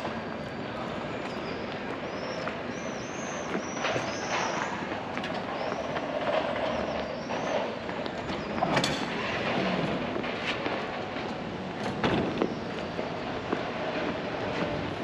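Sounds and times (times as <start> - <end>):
tram wheels clacking over rails: 0.0 - 15.0
tram wheels squealing: 0.0 - 15.0.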